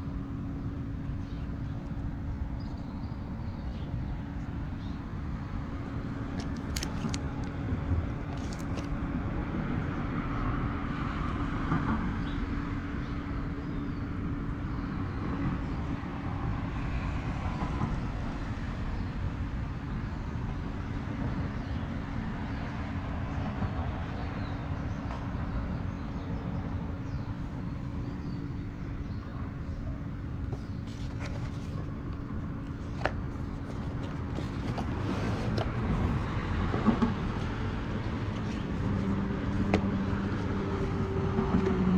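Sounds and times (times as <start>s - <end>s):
motor vehicle rumbling: 0.0s - 16.4s, 23.4s - 41.9s.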